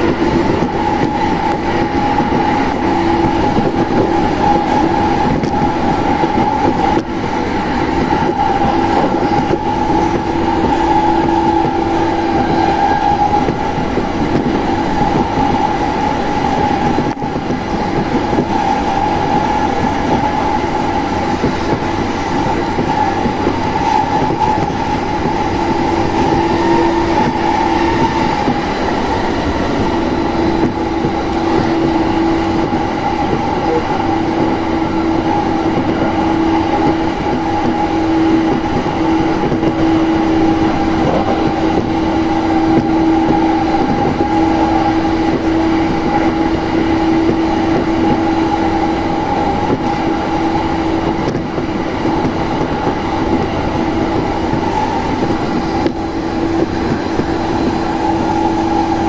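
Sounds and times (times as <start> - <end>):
constant train hum: 0.0 - 59.0
wheels rumbling on rail: 0.0 - 59.0.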